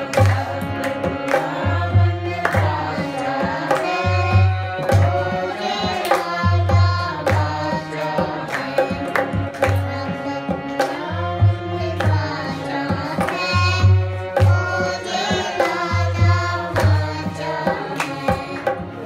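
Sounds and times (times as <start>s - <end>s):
dholak drum rhythm: 0.0s - 19.0s
harmonium chords: 0.0s - 19.0s
voices singing a psalm: 0.0s - 19.0s.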